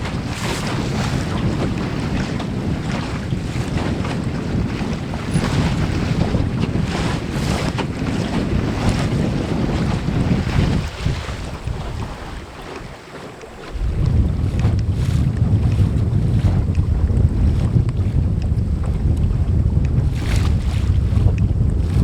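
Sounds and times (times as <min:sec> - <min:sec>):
water splashing along hull: 0:00.0 - 0:22.0
wind buffeting microphone: 0:00.0 - 0:22.0.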